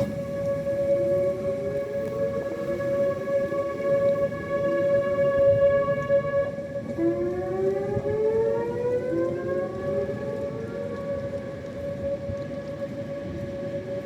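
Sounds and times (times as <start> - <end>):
siren holding steady tone: 0.0 - 14.0
siren wailing upward: 0.0 - 14.0.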